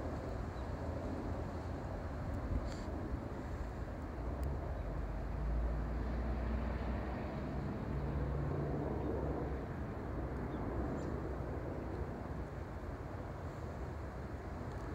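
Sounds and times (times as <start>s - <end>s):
jet engine rumble: 0.0s - 14.9s.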